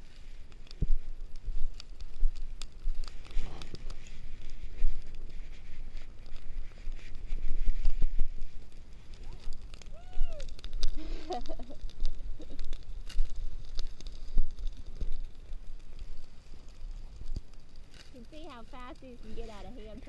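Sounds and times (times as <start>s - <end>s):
crackles and rustles of grass fire: 0.0s - 20.0s
wind rumbling on microphone: 0.0s - 20.0s.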